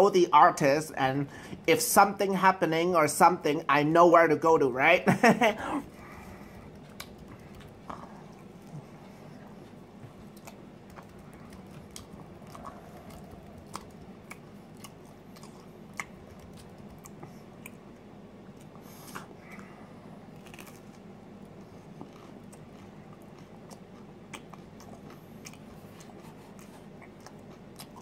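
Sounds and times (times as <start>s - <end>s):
person chewing pizza: 5.4s - 28.0s.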